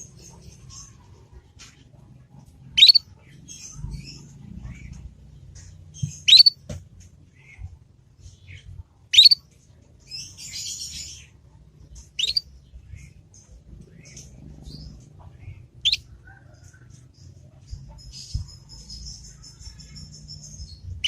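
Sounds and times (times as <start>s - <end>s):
canary chirping: 2.6s - 6.7s, 7.4s - 21.0s
soft scratchy bird twitter: 2.8s - 6.6s, 7.3s - 21.0s.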